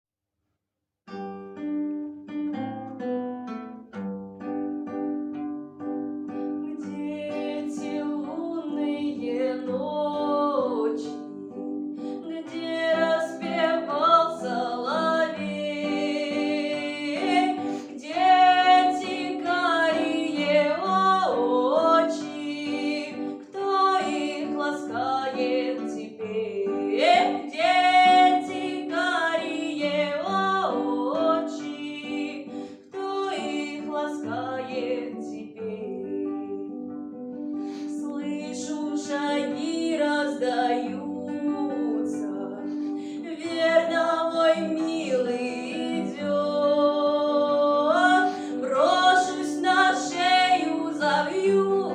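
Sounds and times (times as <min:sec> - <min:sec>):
woman singing with vibrato: 0:06.6 - 0:36.8, 0:37.9 - 0:51.9.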